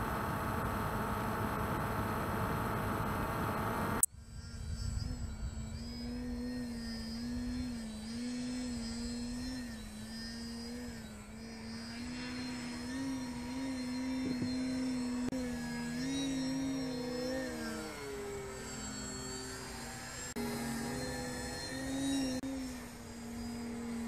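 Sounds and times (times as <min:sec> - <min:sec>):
model plane motor droning: 0:00.0 - 0:24.0.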